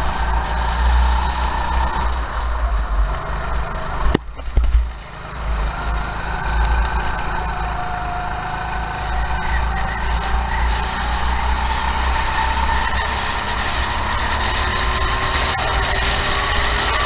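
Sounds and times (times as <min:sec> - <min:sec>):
go-kart engine racing: 0:00.0 - 0:17.0.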